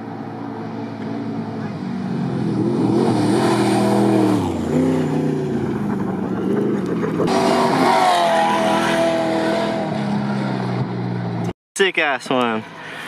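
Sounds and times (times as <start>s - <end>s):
race truck engines passing: 0.0s - 11.5s.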